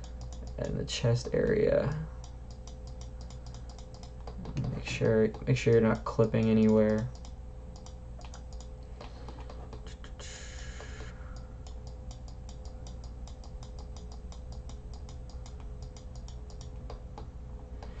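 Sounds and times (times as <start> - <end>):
computer mouse clicking: 0.0 - 18.0
low steady hum: 0.0 - 18.0.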